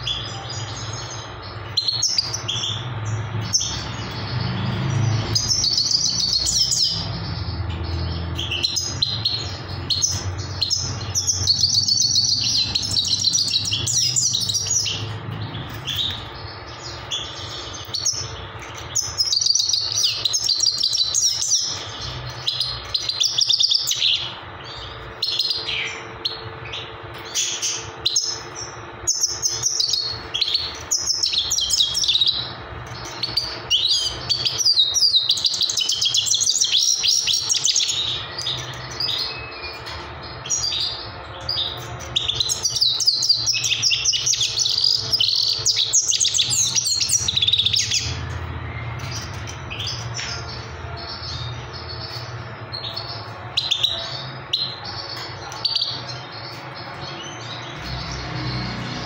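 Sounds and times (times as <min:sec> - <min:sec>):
finch singing: 0:00.0 - 0:59.0.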